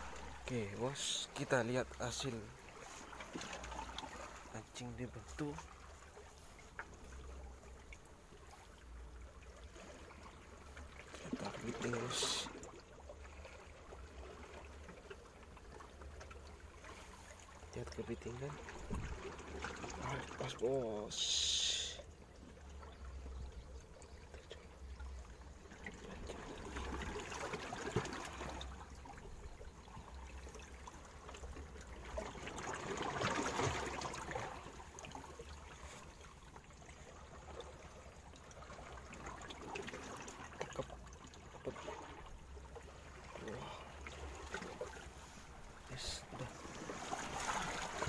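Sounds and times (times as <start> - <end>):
seawater sloshing among rocks: 0.0 - 48.0.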